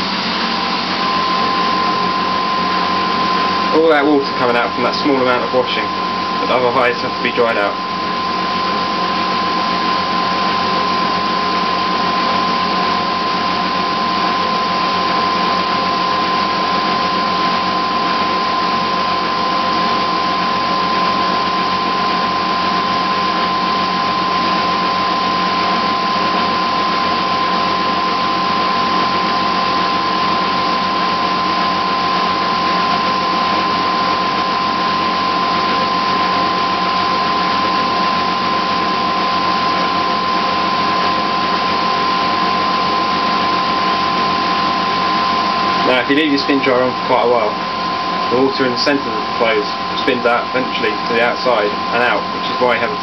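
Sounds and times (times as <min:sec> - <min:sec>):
spin dryer whining: 0:00.0 - 0:53.0.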